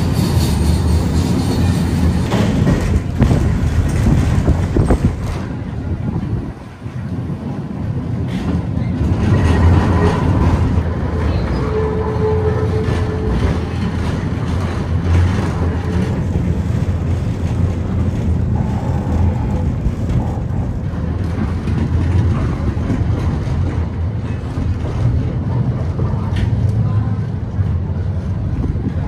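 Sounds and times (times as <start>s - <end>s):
tram wheels rumbling on rails: 0.0s - 29.0s.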